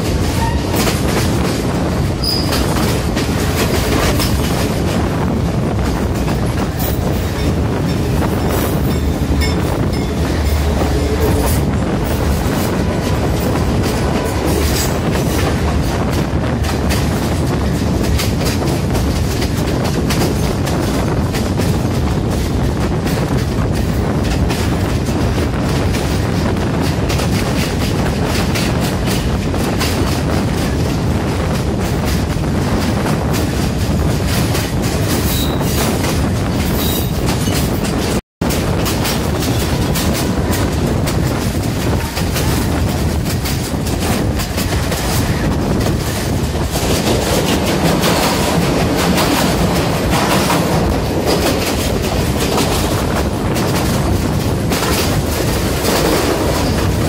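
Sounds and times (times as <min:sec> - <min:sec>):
train rumble: 0:00.0 - 0:57.0
wheels clickety-clack over rails: 0:00.0 - 0:57.0.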